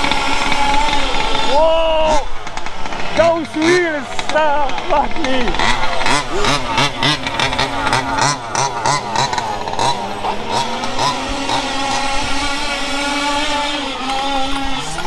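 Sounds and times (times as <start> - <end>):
small petrol engine revving: 0.0 - 15.0.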